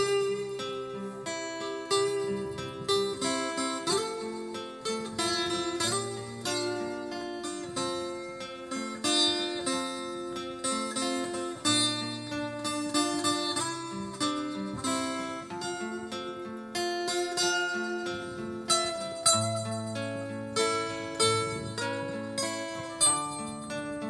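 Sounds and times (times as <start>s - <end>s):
plucked single-string melody: 0.0s - 24.0s
strummed acoustic guitar: 0.0s - 24.0s.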